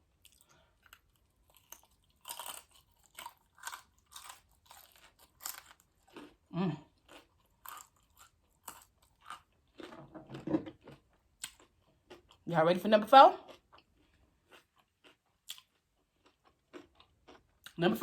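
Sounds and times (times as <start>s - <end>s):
crunching of fried food: 0.1s - 12.5s, 13.4s - 17.8s.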